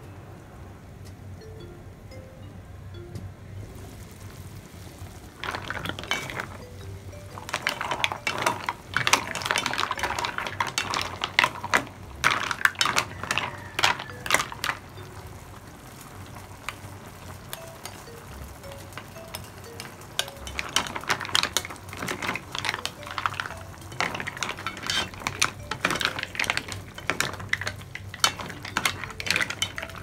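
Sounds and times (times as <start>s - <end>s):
mussel shells clinking in pan: 5.3s - 30.0s.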